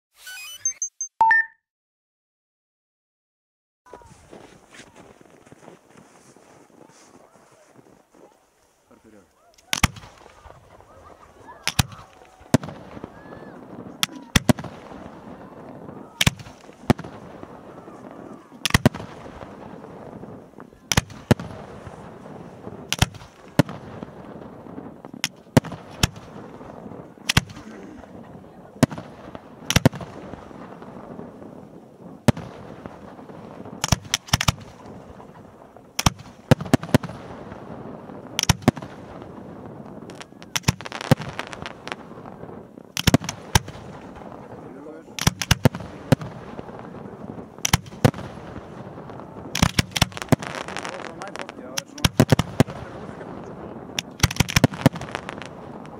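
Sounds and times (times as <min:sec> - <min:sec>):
constant low background noise: 0:03.9 - 0:55.9
firework shells bursting: 0:09.6 - 0:10.8, 0:11.6 - 0:28.2, 0:28.8 - 0:55.9.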